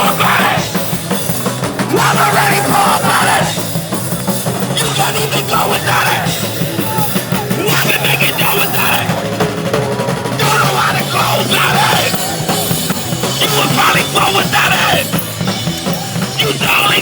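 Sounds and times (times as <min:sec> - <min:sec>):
shouted vocals: 0:00.0 - 0:01.1, 0:01.7 - 0:17.0
punk band playing: 0:00.0 - 0:17.0.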